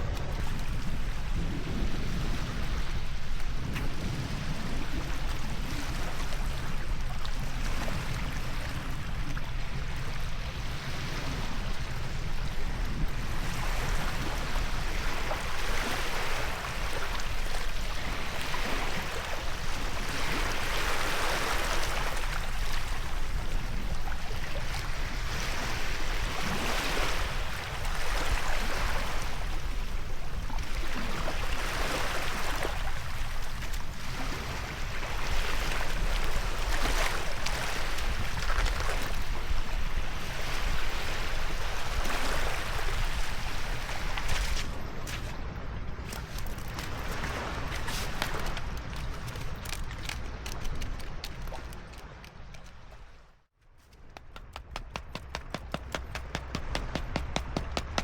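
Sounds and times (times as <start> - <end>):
ocean waves on beach: 0.0 - 53.4, 54.2 - 58.0.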